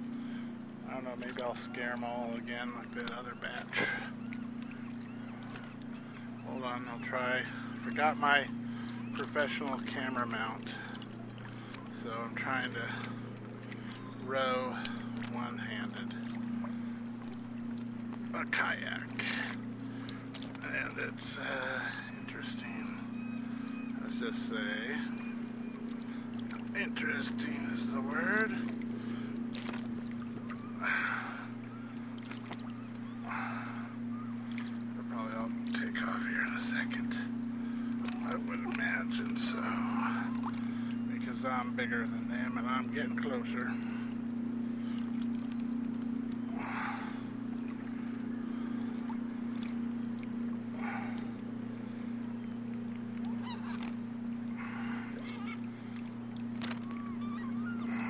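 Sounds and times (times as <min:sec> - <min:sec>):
gulls calling: 0:00.0 - 0:58.0
kayak paddle splashing: 0:00.0 - 0:58.0
steady low hum: 0:00.0 - 0:58.0.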